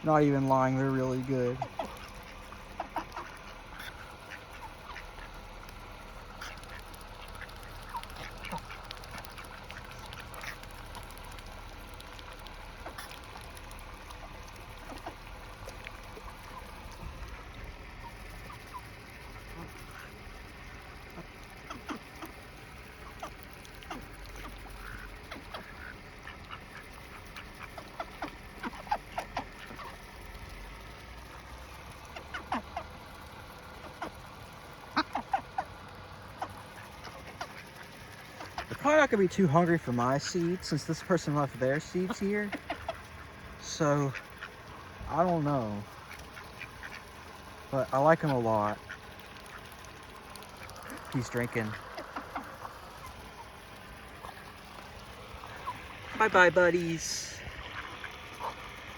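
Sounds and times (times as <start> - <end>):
ducks quacking: 0.0 - 30.5, 31.2 - 58.9
ducks pecking seeds clicks: 0.1 - 58.9.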